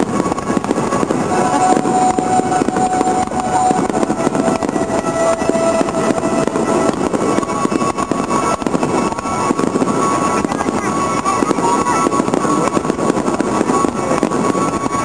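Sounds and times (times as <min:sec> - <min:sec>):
fireworks crackling: 0:00.0 - 0:15.0
music playing: 0:00.0 - 0:15.0.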